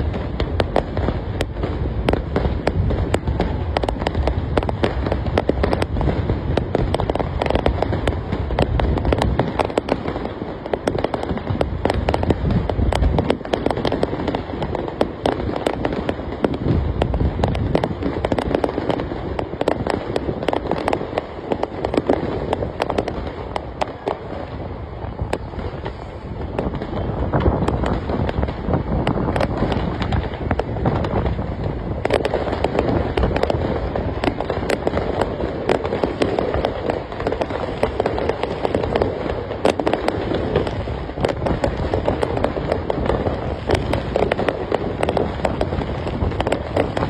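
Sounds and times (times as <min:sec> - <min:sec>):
fireworks banging and crackling: 0:00.0 - 0:47.0.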